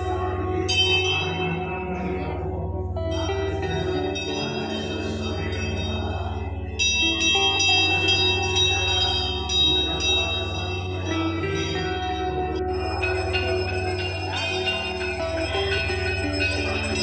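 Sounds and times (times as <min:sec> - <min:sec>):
ringing bell strikes: 0:00.0 - 0:17.0.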